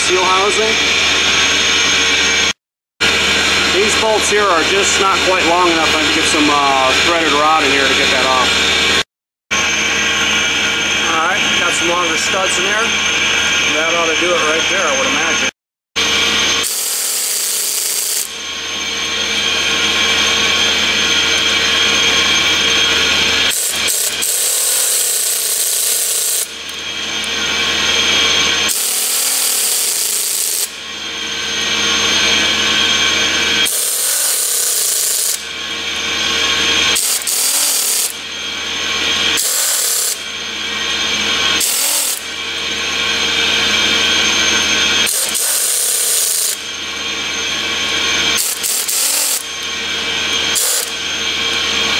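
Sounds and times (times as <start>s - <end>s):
air compressors running: 0.0s - 51.9s
power tool running: 0.0s - 51.9s.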